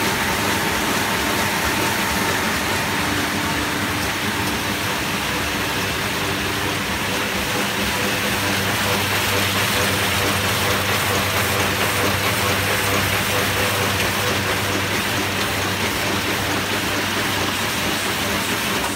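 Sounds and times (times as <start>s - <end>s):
low machine hum: 0.0s - 18.9s
machine mechanical clatter: 0.0s - 18.9s.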